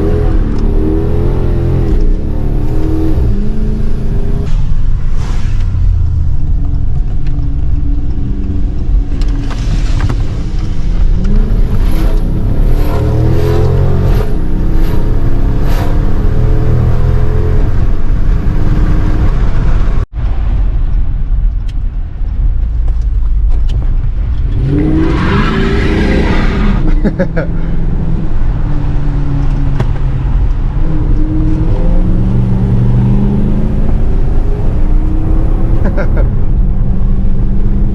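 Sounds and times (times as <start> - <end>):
car engine revving: 0.0 - 20.1, 23.7 - 37.9.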